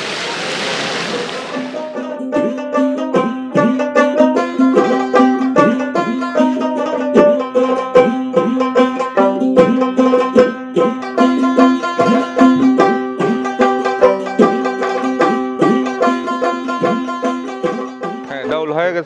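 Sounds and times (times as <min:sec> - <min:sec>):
plucked string tune: 0:00.0 - 0:19.0.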